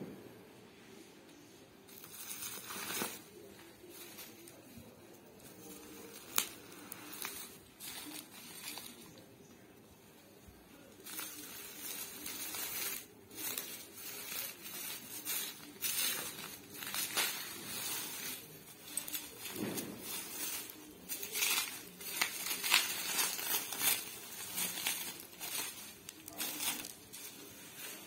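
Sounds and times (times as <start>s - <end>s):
bubble wrap crinkling: 1.9s - 28.0s.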